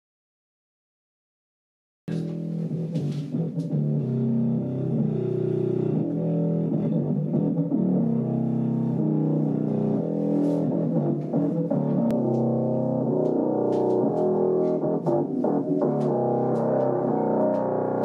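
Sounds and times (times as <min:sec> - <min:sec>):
guitar and bass music on speaker: 0:02.1 - 0:18.0.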